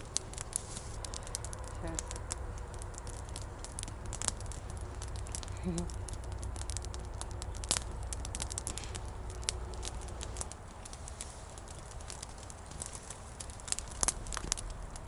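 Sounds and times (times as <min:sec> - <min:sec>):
campfire crackling and popping: 0:00.0 - 0:15.0
low rumble: 0:00.0 - 0:15.0.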